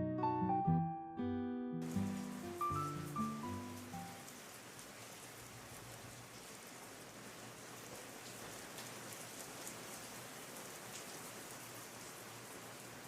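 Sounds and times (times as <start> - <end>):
faint raindrop ticks: 1.8 - 12.4
steady rainfall hiss: 1.8 - 13.0.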